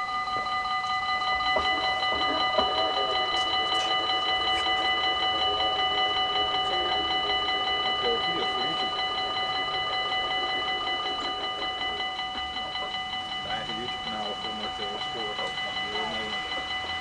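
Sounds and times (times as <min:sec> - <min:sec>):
level crossing warning bell ringing: 0:00.0 - 0:17.0
low wavering hum: 0:00.0 - 0:17.0.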